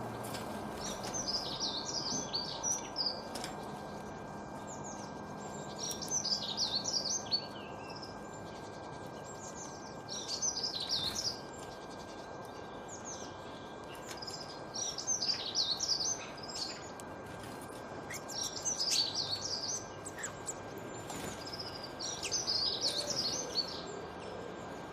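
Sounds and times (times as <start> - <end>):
songbird twittering: 0.8 - 3.3, 4.6 - 16.9, 18.1 - 24.4.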